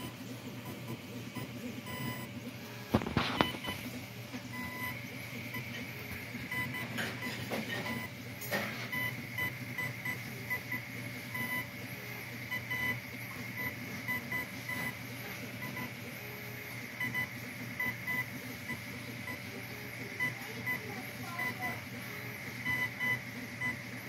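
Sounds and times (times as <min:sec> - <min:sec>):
stepper motors beeping chirps: 0:00.0 - 0:03.9, 0:04.5 - 0:08.2, 0:08.8 - 0:24.0
steady low hum: 0:00.0 - 0:24.0.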